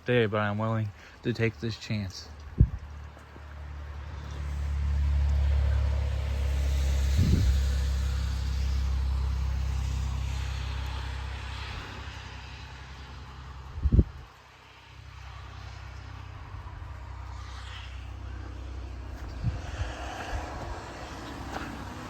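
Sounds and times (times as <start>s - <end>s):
vehicle driving past: 3.5s - 22.0s.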